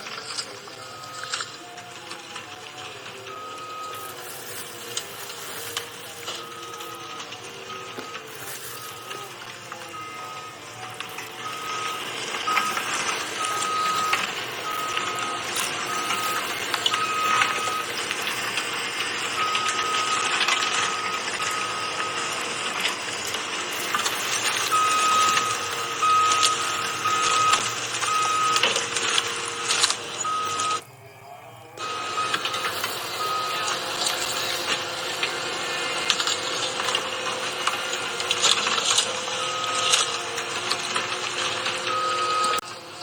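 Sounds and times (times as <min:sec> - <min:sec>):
heavy machinery running: 0:00.0 - 0:30.8, 0:31.8 - 0:43.0
warning alarm beeping: 0:00.0 - 0:42.8.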